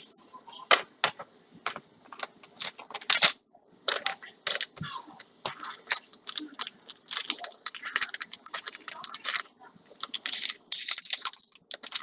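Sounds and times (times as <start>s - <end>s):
packaging crinkling and rustling: 1.0s - 4.9s, 5.5s - 12.0s.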